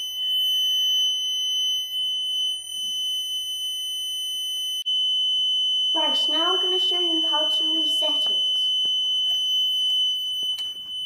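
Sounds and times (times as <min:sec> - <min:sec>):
fire alarm buzzer tone: 0:00.0 - 0:11.0.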